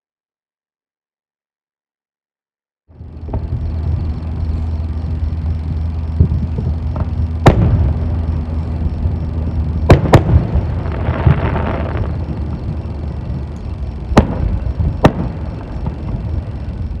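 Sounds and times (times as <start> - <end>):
propeller and motor drone: 2.9 - 17.0
fireworks crackling hiss: 3.0 - 17.0
fireworks bangs: 3.1 - 17.0.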